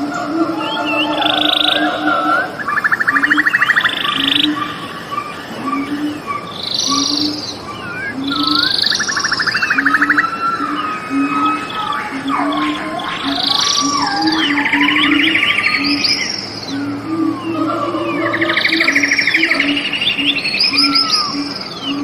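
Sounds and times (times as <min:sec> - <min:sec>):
birds singing: 0:00.0 - 0:22.0
frogs croaking: 0:00.0 - 0:22.0.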